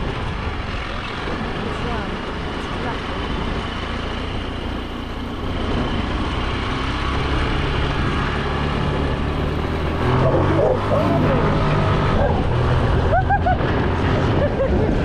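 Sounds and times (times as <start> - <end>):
road and wind noise: 0.0 - 15.0
scooter engine droning: 0.0 - 15.0.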